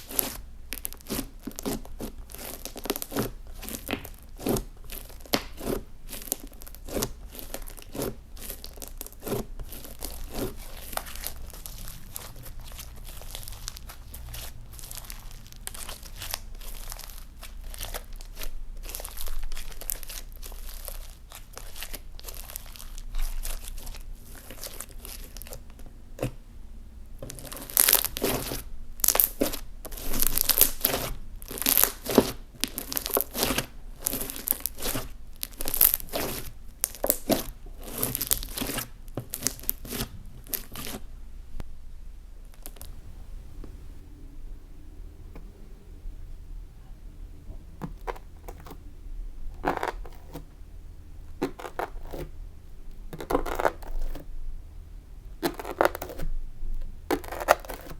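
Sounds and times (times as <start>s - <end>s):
slime crackling and squelching: 0.0s - 26.4s, 27.2s - 41.1s, 42.4s - 44.0s, 47.5s - 54.4s, 55.3s - 57.9s.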